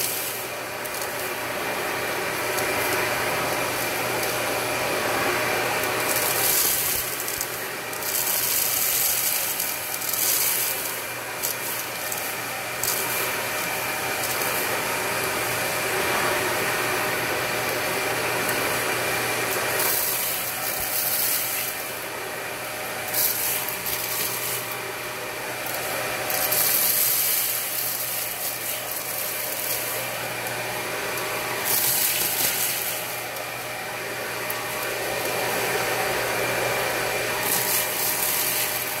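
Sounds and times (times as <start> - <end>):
debris rattling through vacuum hose: 0.0 - 16.8, 17.4 - 39.0
vacuum cleaner running: 0.0 - 39.0.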